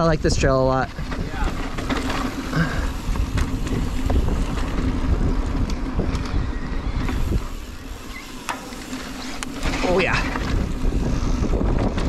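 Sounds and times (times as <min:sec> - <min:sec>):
bike clicks and rattles: 0:00.0 - 0:12.0
wind buffeting microphone: 0:00.0 - 0:12.0.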